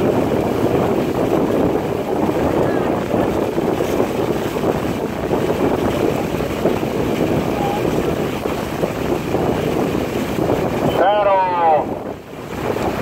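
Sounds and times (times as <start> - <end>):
water washing: 0.0 - 13.0
wind buffeting microphone: 0.0 - 13.0.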